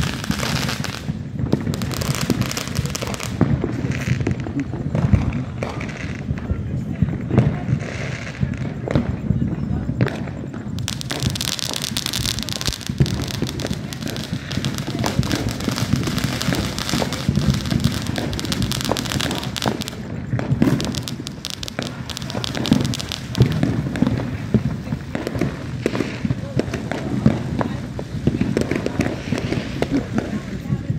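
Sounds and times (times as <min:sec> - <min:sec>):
fireworks crackling: 0:00.0 - 0:30.9.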